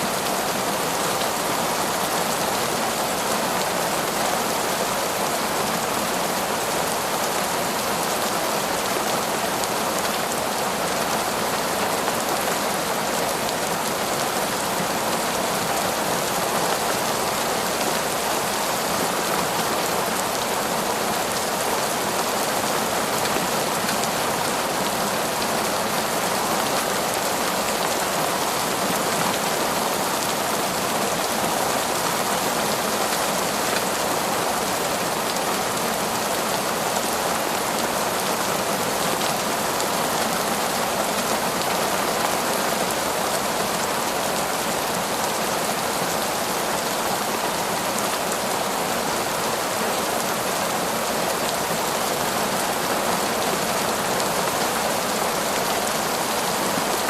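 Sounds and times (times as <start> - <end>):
heavy rain falling in forest: 0.0 - 57.0.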